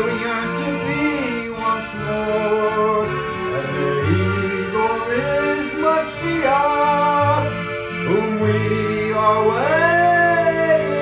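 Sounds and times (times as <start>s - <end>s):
accordion slow melody: 0.0s - 11.0s.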